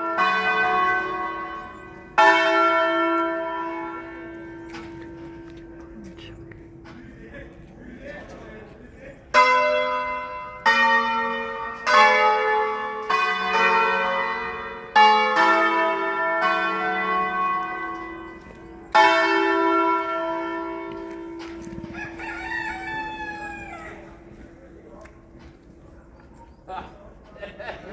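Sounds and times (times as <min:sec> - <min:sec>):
church bells ringing: 0:00.0 - 0:07.7, 0:09.2 - 0:26.4.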